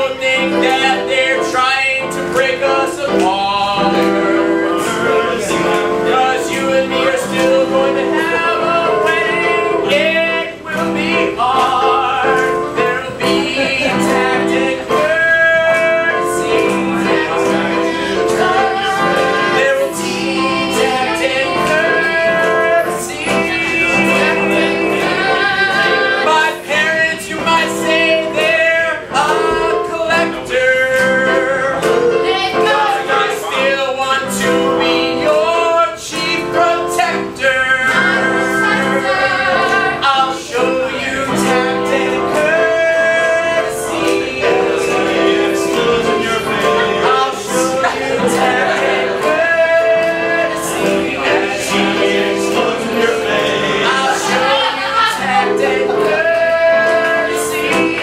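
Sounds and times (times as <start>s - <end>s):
instrumental accompaniment: 0.0s - 58.0s
men and women singing: 0.0s - 58.0s.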